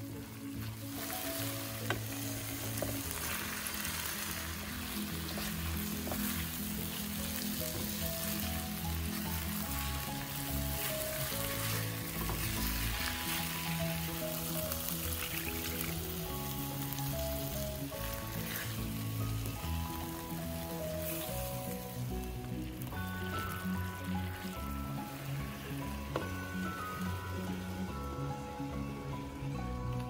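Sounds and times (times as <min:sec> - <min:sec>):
background music: 0:00.0 - 0:30.0
chicken sizzling in a pan: 0:00.0 - 0:30.0.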